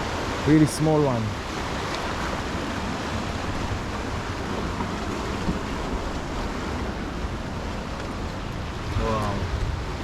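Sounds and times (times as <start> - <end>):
ocean surf against rocks: 0.0 - 10.0.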